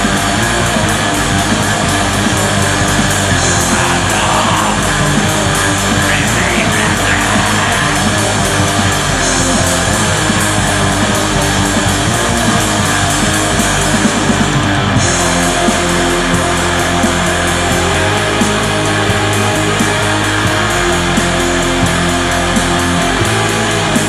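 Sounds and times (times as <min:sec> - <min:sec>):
distorted electric guitars: 0:00.0 - 0:24.0
drums beating: 0:00.0 - 0:24.0.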